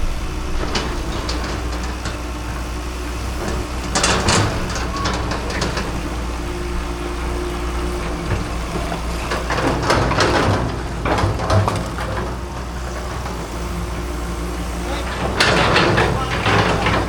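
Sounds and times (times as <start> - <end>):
loud knocks and scrapes: 0.0 - 14.2
diesel engine running: 0.0 - 17.0.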